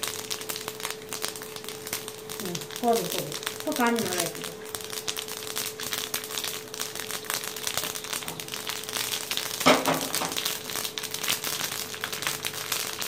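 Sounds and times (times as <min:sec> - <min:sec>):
seeds sputtering in hot oil: 0:00.0 - 0:13.0.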